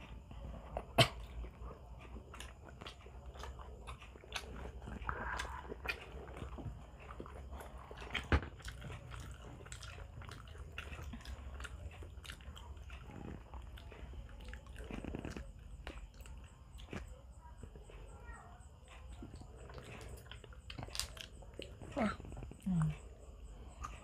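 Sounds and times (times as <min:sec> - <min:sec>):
people chewing meat: 0:00.0 - 0:24.0.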